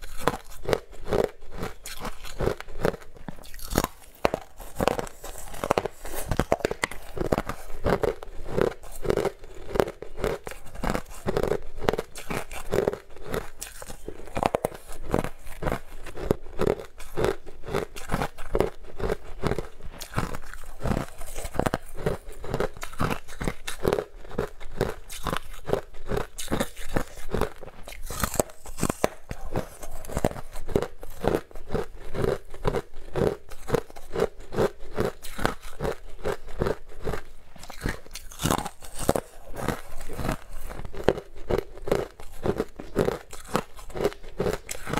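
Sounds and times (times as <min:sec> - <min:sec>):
crunching and chewing ice: 0:00.0 - 0:44.9.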